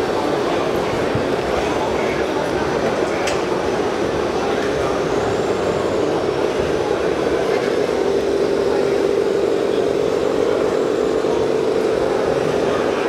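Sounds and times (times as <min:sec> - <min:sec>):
busy hall noise: 0:00.0 - 0:13.0
toy crane mechanical hum: 0:01.4 - 0:13.0.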